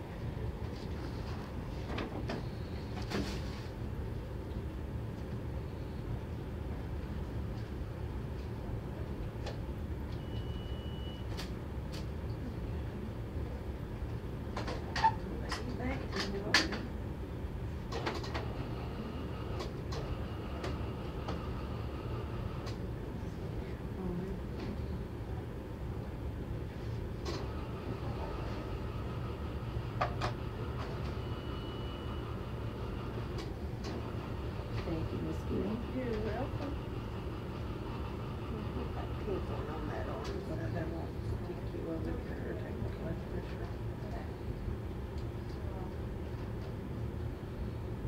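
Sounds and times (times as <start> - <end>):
low room rumble: 0.0 - 48.0.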